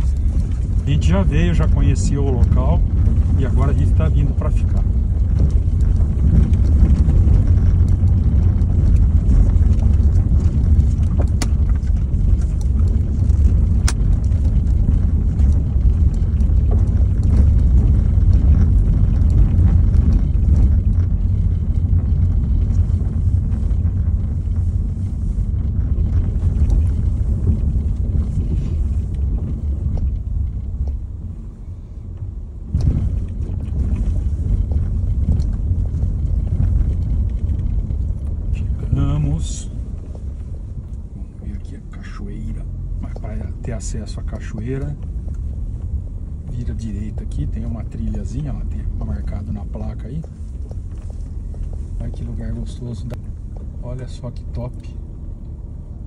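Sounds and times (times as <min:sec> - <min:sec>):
vehicle rumbling on dirt road: 0:00.0 - 0:56.0.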